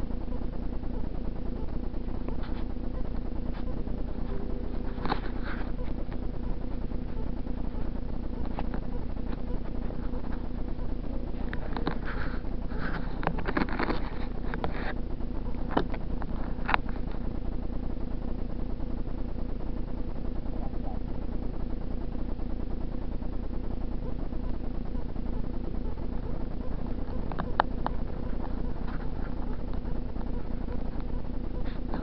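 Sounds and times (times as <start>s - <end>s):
faint hum: 0.0s - 32.0s
low rumble: 0.0s - 32.0s.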